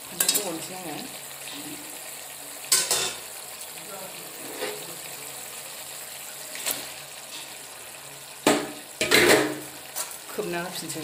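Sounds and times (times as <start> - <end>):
food cooking with steady hiss: 0.0 - 11.0.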